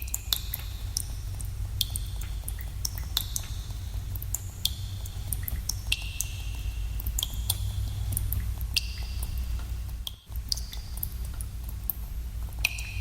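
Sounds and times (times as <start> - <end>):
steady low rumble: 0.0 - 13.0
water drops plinking into pools: 0.0 - 13.0.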